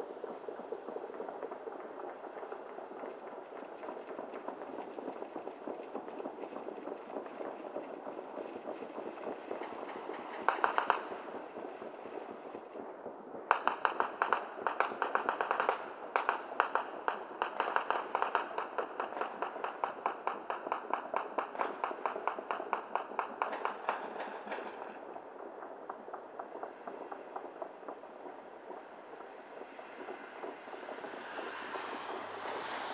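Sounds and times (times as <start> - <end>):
distant fireworks popping: 0.0 - 32.9.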